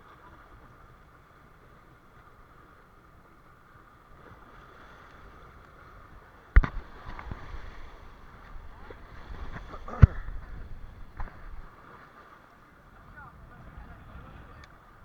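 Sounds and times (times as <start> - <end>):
boat at sea noise: 0.0 - 15.0.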